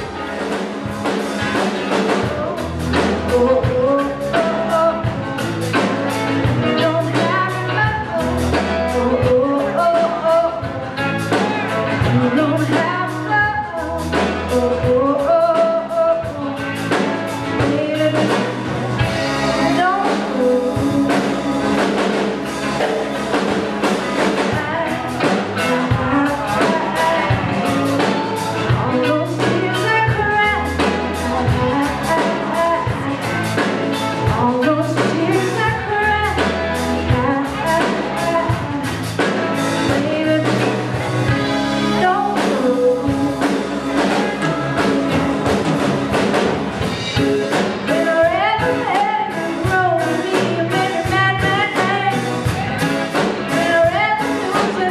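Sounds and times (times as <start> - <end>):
person singing: 0.0 - 46.6, 47.2 - 54.9
live band playing: 0.0 - 54.9.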